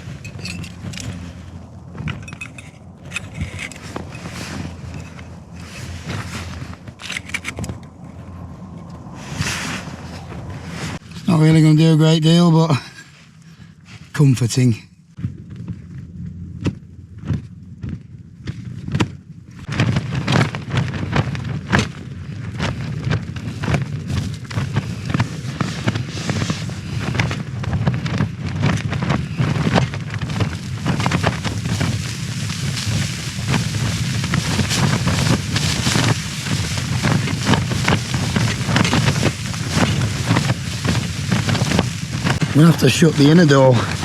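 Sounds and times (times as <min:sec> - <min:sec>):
tent fabric flapping and snapping: 0:00.0 - 0:11.9, 0:15.1 - 0:44.0
strong wind rumble: 0:00.0 - 0:44.0.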